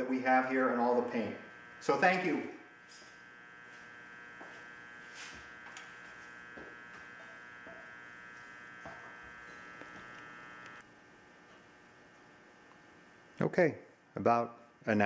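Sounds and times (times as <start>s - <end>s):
low electrical buzz: 0.0s - 15.0s.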